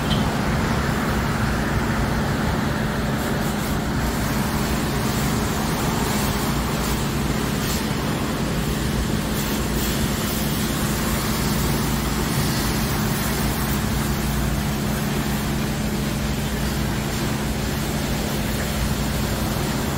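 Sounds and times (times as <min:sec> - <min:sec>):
rush of air or water: 0:00.0 - 0:19.9.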